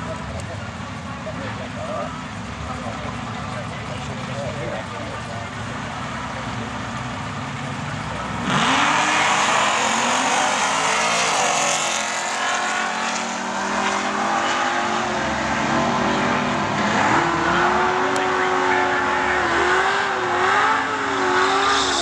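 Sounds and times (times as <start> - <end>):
cars accelerating hard: 0.0 - 22.0.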